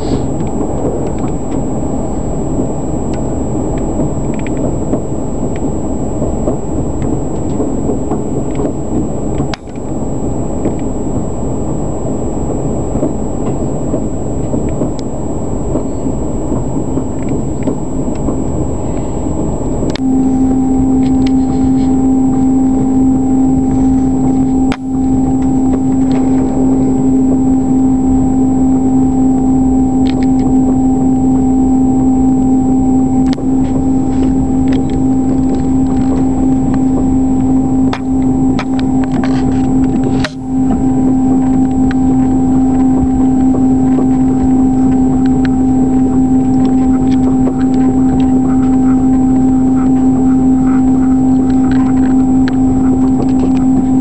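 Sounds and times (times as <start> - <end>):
steady droning hum: 0.0 - 54.0
train rumbling: 0.0 - 54.0.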